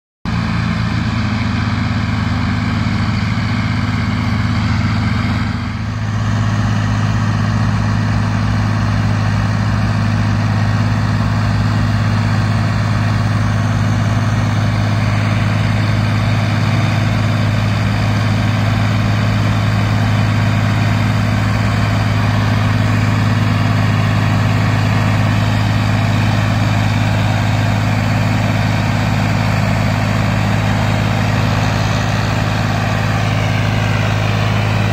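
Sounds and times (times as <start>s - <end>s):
tractor diesel engine humming: 0.3s - 34.9s.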